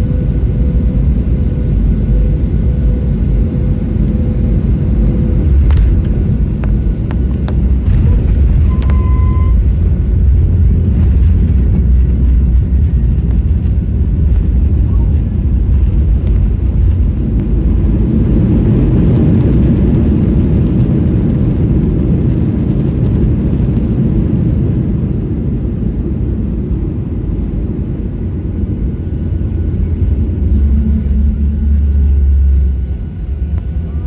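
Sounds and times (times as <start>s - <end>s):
airplane cabin engine rumble: 0.0s - 34.0s
deep steady hum: 0.0s - 34.0s.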